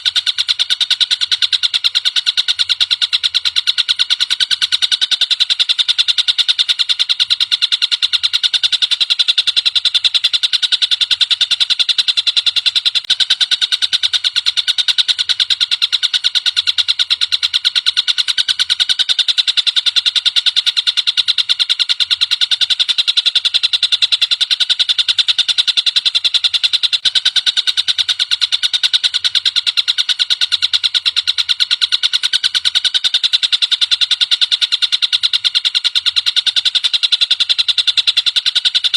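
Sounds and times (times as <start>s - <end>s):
kingfisher rattling trill: 0.0s - 38.9s.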